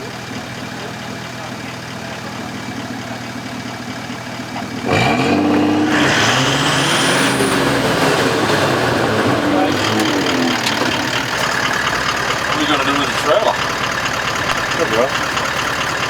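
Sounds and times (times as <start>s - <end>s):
engine idling and revving: 0.0s - 16.0s.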